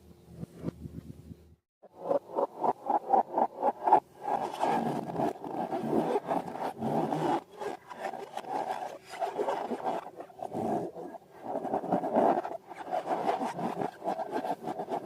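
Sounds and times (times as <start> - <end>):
slime and balloons rubbing: 2.9 - 15.0.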